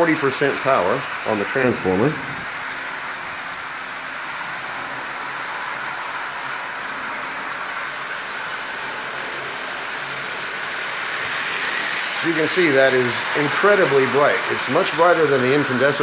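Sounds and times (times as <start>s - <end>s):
toy train whirring on rails: 0.0s - 16.0s.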